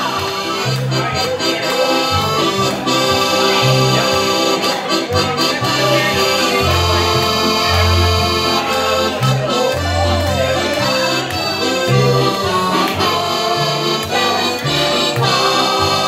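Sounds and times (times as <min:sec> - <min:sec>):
piano accordion playing a tune: 0:00.0 - 0:16.0.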